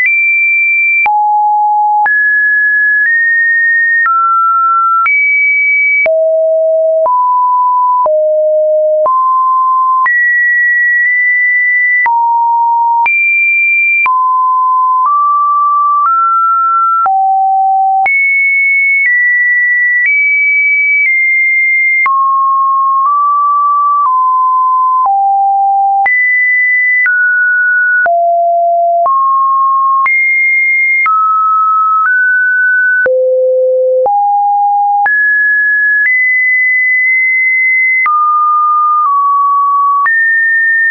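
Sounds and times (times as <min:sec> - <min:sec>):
electronic sine-wave beeps: 0:00.0 - 0:40.9.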